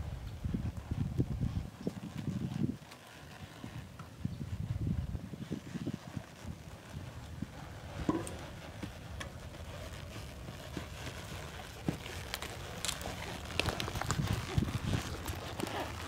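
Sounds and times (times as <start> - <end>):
hooves thudding on dirt: 0.2 - 16.0.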